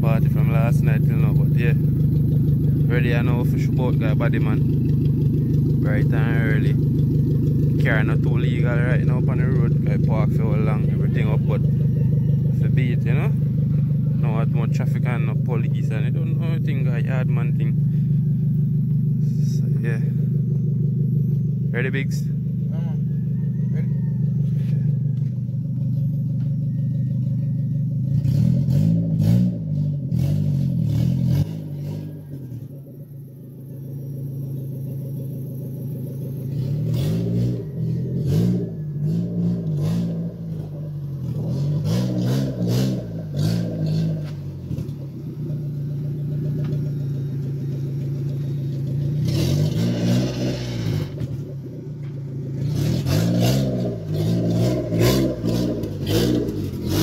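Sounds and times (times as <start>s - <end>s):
car engine revving: 0.0s - 57.0s
engine clatter: 0.0s - 57.0s.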